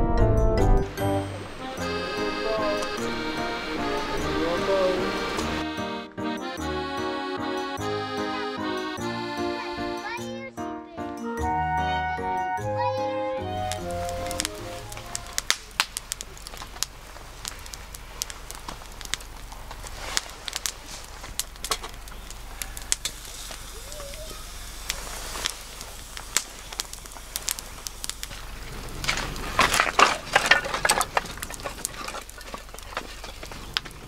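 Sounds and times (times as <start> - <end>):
campfire crackling and popping: 0.7 - 10.4, 12.8 - 34.0.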